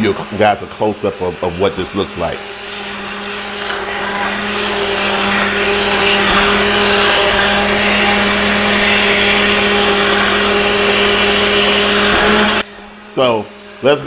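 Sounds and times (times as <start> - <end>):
immersion blender running: 0.0 - 14.0.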